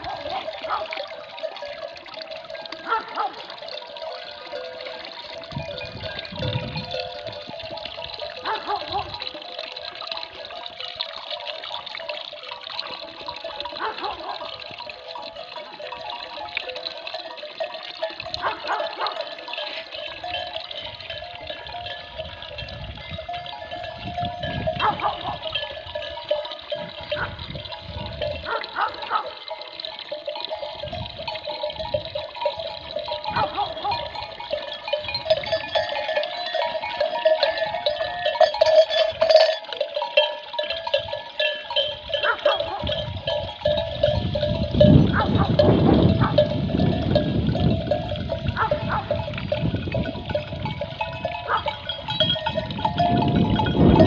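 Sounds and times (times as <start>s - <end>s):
sheep bells clanking: 0.0s - 54.0s.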